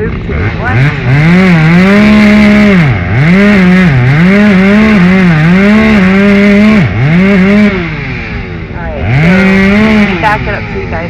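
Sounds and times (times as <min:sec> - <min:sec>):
chainsaw cutting: 0:00.0 - 0:11.0.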